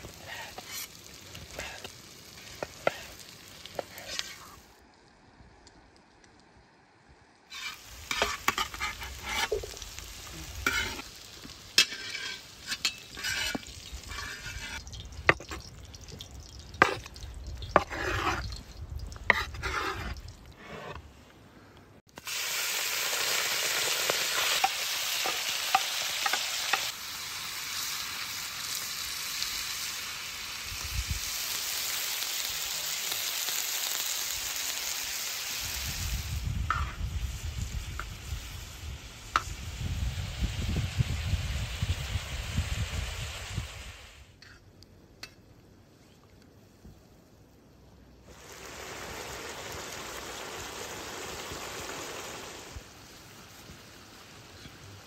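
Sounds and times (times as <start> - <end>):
meat sizzling in a pan: 0.0 - 4.6, 7.5 - 20.3, 22.1 - 44.1, 48.3 - 55.0.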